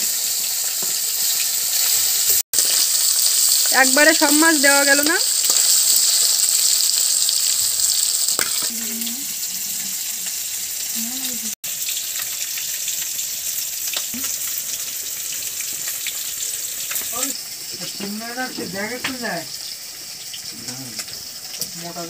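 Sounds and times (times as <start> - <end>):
fish sizzling in hot oil: 0.0 - 22.0.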